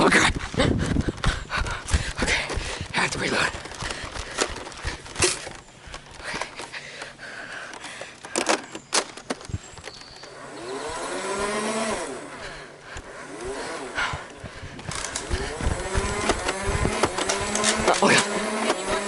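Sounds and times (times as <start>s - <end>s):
sharp plastic clicks: 0.0s - 11.4s, 12.9s - 19.0s.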